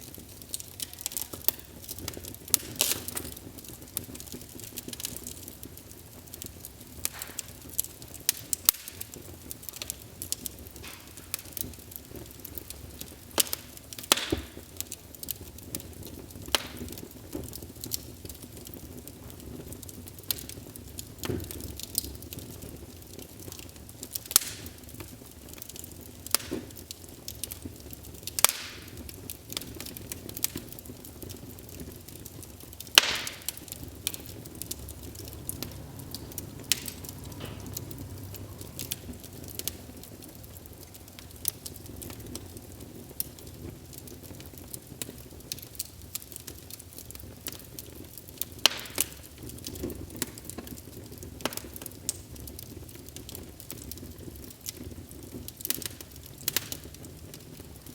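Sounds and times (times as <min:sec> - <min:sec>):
fire crackling and popping: 0:00.0 - 0:57.9
low rumble of flames: 0:00.0 - 0:57.9.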